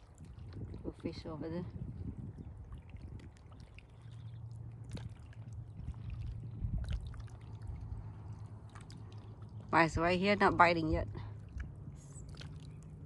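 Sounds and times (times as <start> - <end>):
distant motorboat engine hum: 0.0 - 13.0
light water at shore: 0.0 - 13.0.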